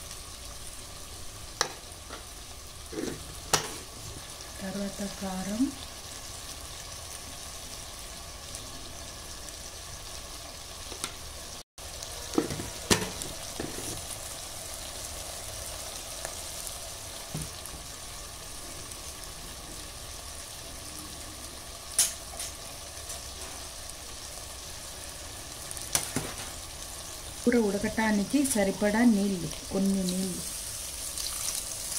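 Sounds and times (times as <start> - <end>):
food sizzling in a pot: 0.0 - 31.9.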